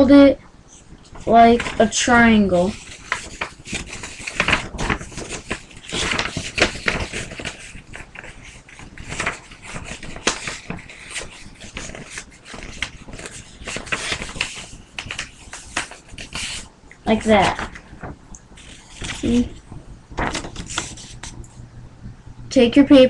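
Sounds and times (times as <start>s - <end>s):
paper rustling and crinkling: 0.7s - 21.6s.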